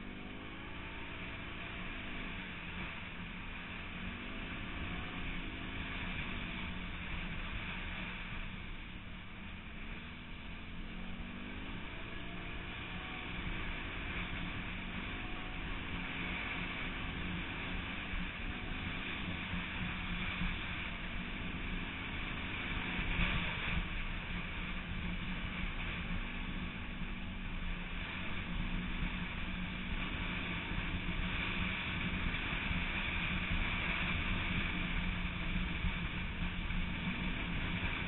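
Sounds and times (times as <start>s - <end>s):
off-road bike engine running: 0.0s - 38.0s.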